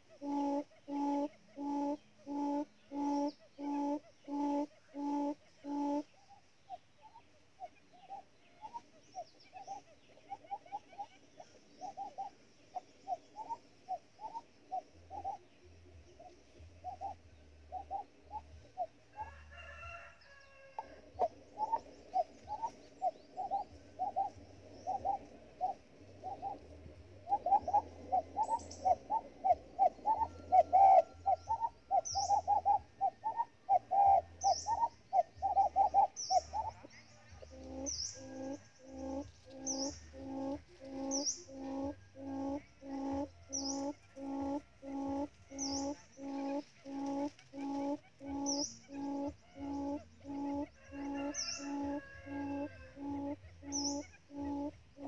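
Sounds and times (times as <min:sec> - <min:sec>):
quail calling: 0:00.0 - 0:15.5, 0:16.1 - 0:55.0
small bird chirping: 0:00.0 - 0:55.0.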